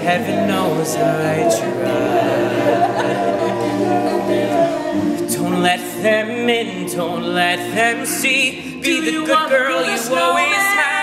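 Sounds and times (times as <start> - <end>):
male group singing a cappella: 0.0 - 11.0.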